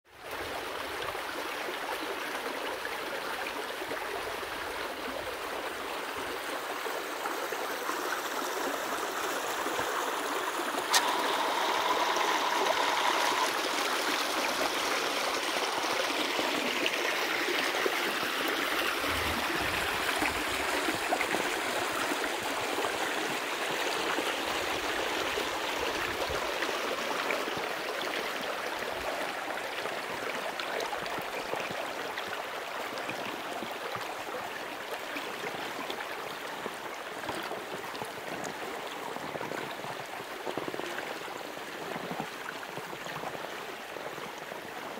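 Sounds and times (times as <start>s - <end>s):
stream rippling over bed: 0.1s - 44.9s.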